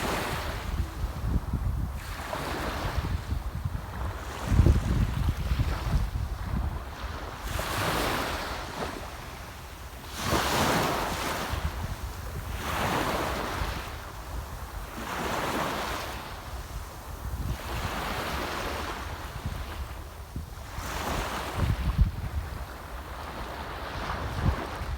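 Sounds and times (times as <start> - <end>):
small waves washing ashore: 0.0 - 24.9.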